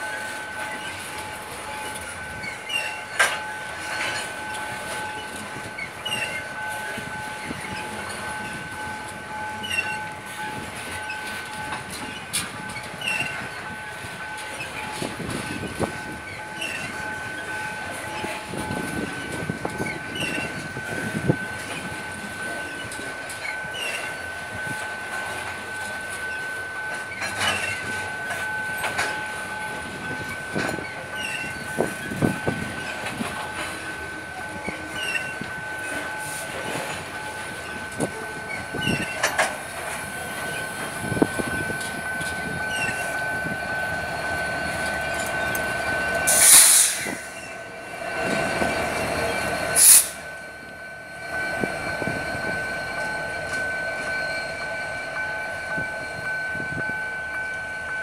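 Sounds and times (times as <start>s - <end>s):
train wheels clicking over rail joints: 0.0s - 50.7s
high ringing of wheels on rails: 0.0s - 58.0s.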